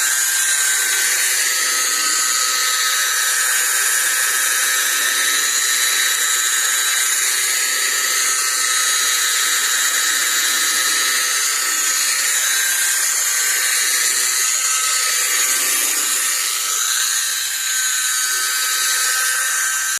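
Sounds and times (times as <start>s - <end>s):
car polishing machine whining: 0.0s - 19.9s.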